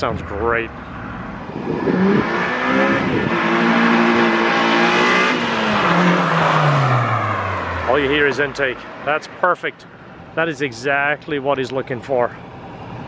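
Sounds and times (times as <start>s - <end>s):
car engine accelerating: 0.0s - 10.5s.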